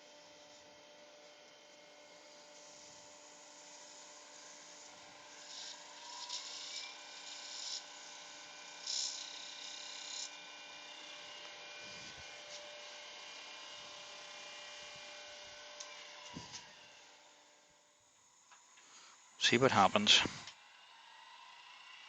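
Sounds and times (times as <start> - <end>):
wood lathe motor humming: 0.0 - 17.8.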